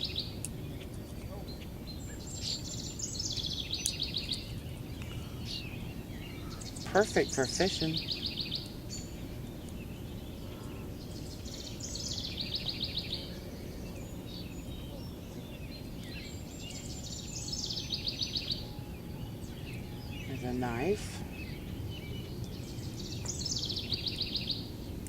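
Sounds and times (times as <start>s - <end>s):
low outdoor rumble: 0.0s - 25.0s
songbird trilling: 0.0s - 25.0s.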